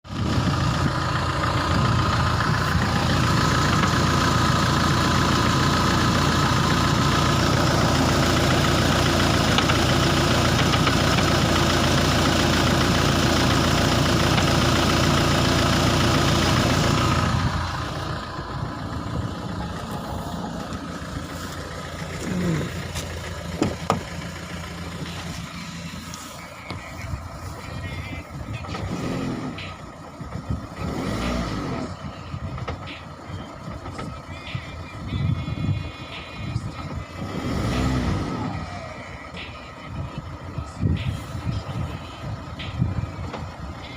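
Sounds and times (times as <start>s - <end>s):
car engine running with knocking: 0.0s - 43.9s.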